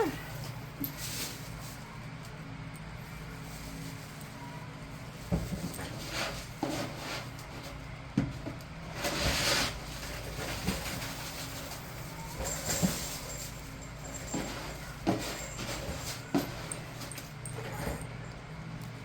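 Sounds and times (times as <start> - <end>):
room noise hum: 0.0 - 19.0.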